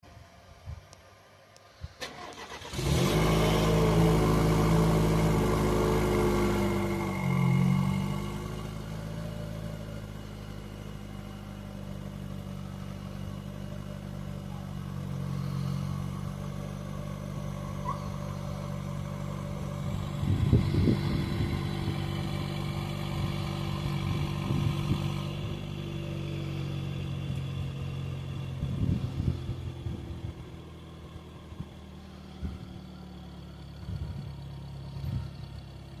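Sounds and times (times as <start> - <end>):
engine idling: 1.7 - 36.0.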